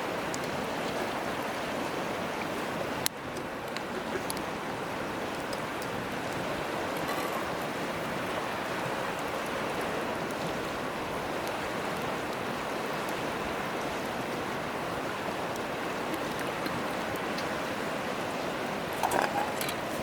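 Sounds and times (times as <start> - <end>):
campfire crackles: 0.0 - 20.0
flowing river water: 0.0 - 20.0.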